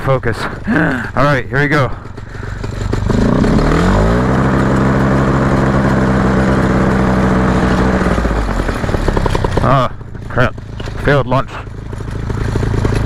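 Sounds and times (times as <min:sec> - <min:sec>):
paramotor engine revving up: 0:00.5 - 0:13.0.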